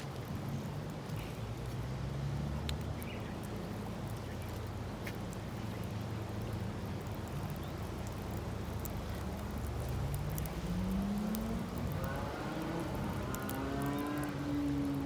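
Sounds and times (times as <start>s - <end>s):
campfire crackling and popping: 0.0s - 15.0s
low engine hum: 0.2s - 15.0s.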